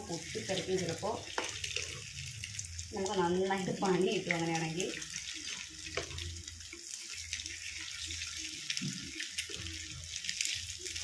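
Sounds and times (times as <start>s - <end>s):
crackles and pops of frying: 0.0s - 11.0s
eggs deep-frying in hot oil: 0.0s - 11.0s.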